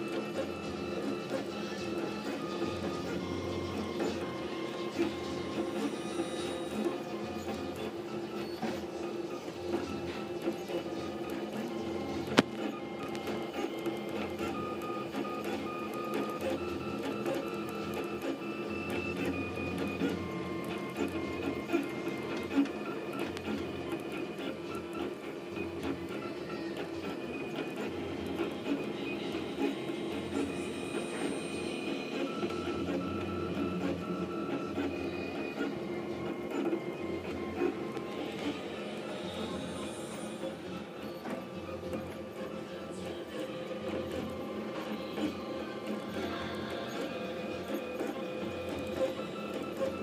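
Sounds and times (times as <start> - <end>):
steady mechanical hum: 0.0 - 50.0
stepper motors whining: 0.0 - 50.0.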